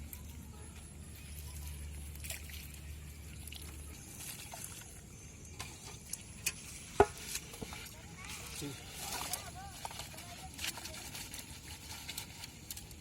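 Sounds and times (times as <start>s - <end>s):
water trickling: 0.1s - 13.0s.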